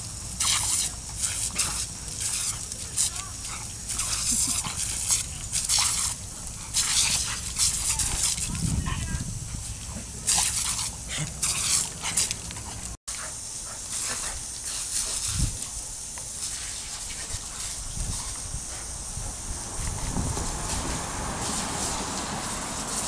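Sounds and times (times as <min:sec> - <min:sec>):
garden hose spray splashing on concrete: 0:00.0 - 0:23.0.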